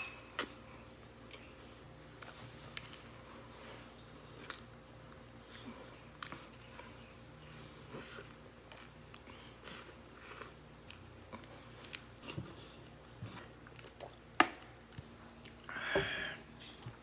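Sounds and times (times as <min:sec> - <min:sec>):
person chewing food: 0:00.3 - 0:17.0.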